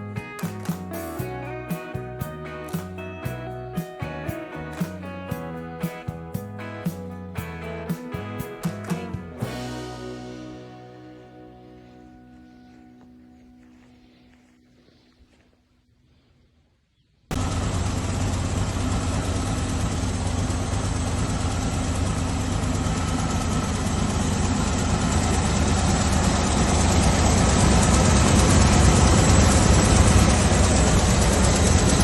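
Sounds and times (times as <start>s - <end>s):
engine running: 0.0s - 15.1s, 17.3s - 32.0s.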